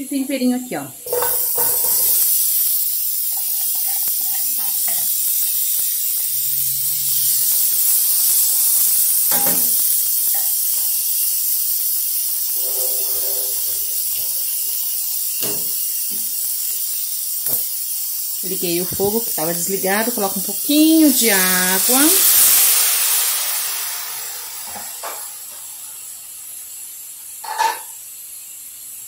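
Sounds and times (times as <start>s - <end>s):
vegetables sizzling in a frying pan: 0.1s - 29.0s.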